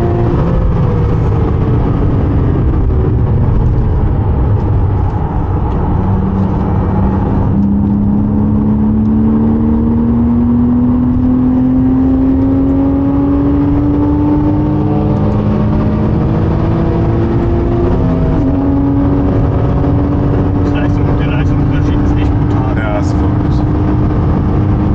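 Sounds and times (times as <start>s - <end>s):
car engine pulling hard: 0.0s - 24.9s.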